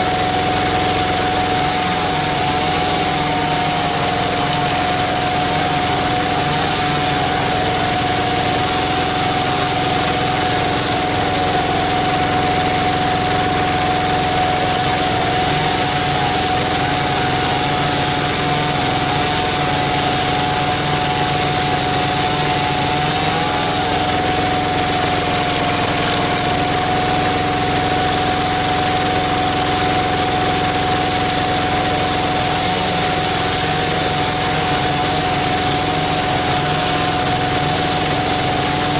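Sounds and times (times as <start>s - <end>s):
log splitter whine: 0.0s - 38.9s
tiller engine running: 0.0s - 38.9s.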